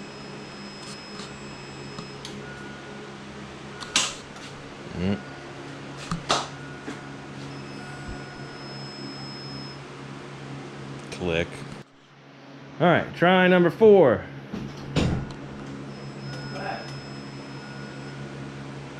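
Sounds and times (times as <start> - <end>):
steady electrical hum: 0.0 - 18.9.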